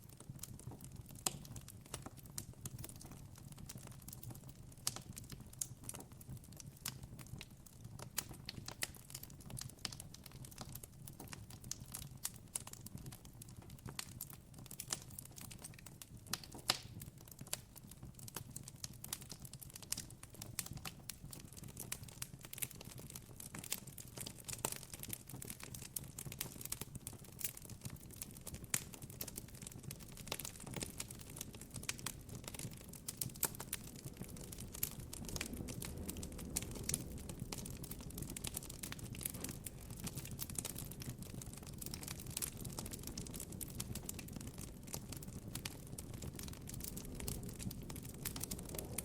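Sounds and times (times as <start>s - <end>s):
campfire crackling: 0.0s - 49.0s.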